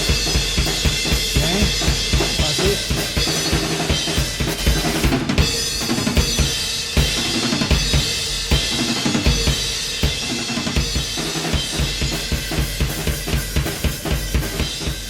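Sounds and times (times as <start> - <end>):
drum kit playing a punk beat: 0.0 - 15.0.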